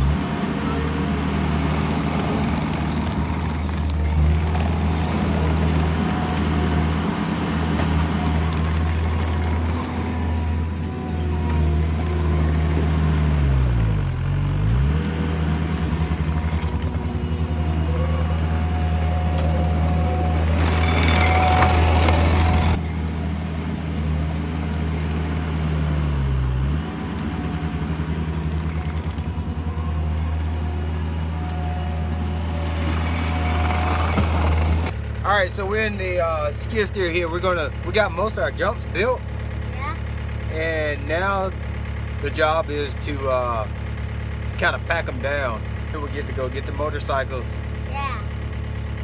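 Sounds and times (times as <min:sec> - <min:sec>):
track loader diesel engine: 0:00.0 - 0:49.0.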